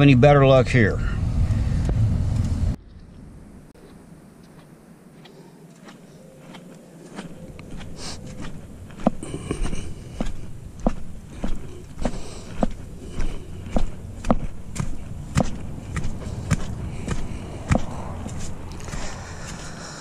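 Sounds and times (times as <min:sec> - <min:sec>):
footsteps on sand: 0:03.8 - 0:20.0.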